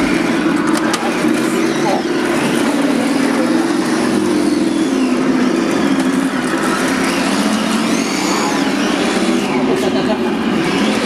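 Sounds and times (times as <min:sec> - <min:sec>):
high motor whine: 0:00.0 - 0:11.0
model truck engine drone: 0:00.0 - 0:11.0.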